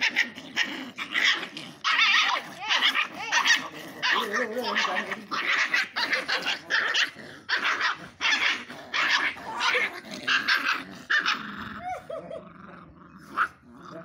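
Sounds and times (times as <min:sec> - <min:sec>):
puppy whining: 0:00.0 - 0:12.5
puppies growling and snarling: 0:00.0 - 0:14.0.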